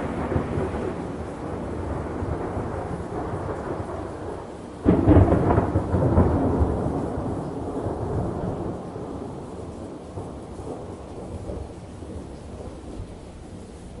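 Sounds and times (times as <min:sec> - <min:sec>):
steady rain hiss: 0:00.0 - 0:14.0
thunder clap rumbling: 0:00.0 - 0:14.0.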